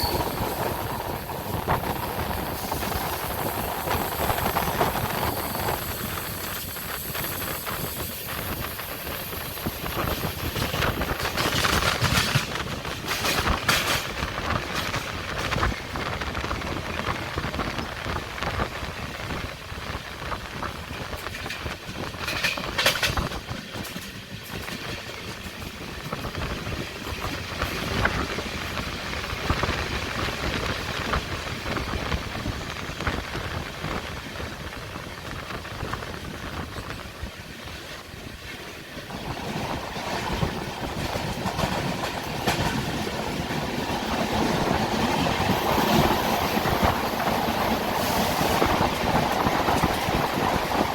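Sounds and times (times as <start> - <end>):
wheels clicking over rail joints: 0.0 - 18.6, 20.5 - 28.8, 34.9 - 50.9
train coaches rumbling and rattling: 0.0 - 50.9.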